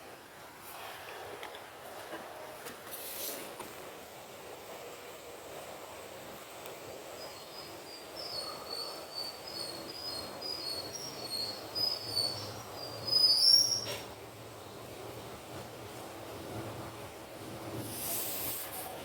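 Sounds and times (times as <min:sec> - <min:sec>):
air conditioner airflow hiss: 0:00.0 - 0:19.0.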